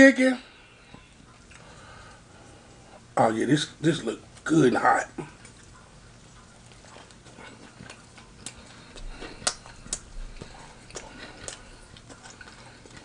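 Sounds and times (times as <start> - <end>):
man chewing food: 0.5 - 3.2, 4.2 - 13.0.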